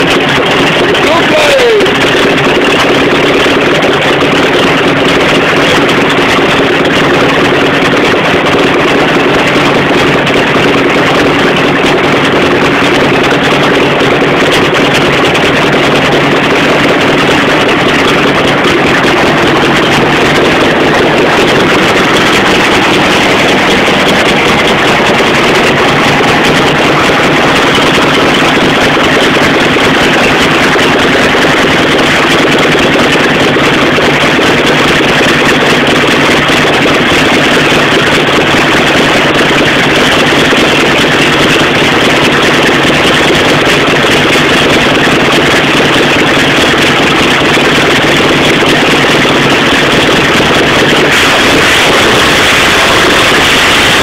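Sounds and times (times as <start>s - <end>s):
air-cooled engine idling: 0.0s - 54.0s.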